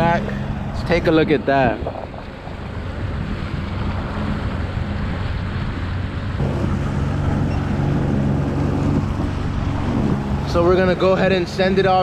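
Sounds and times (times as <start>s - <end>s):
jet ski engine humming: 0.0s - 12.0s
water noise: 0.0s - 12.0s
wind buffeting microphone: 0.0s - 12.0s.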